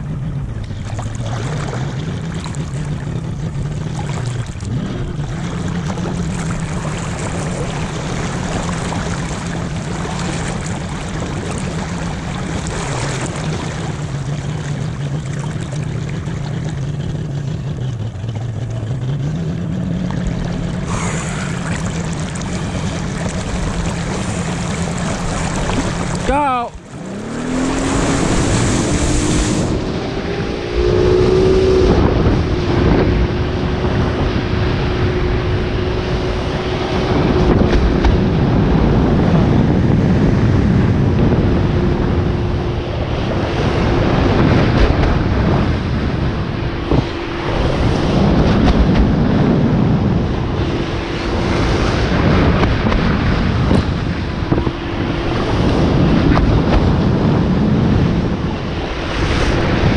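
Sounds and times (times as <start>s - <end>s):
boat engine: 0.0s - 59.9s
water ski rushing through water: 0.0s - 59.9s
wind buffeting microphone: 0.0s - 59.9s.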